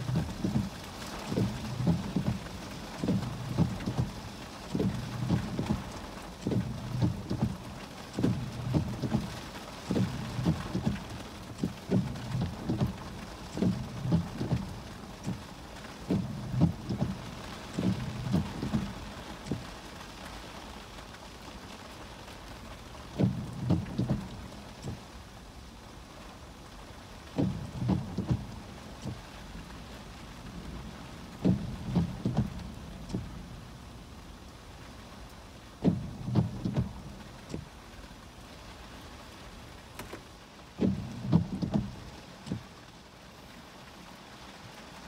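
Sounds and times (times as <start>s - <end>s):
heavy rain on a car roof: 0.0s - 45.0s.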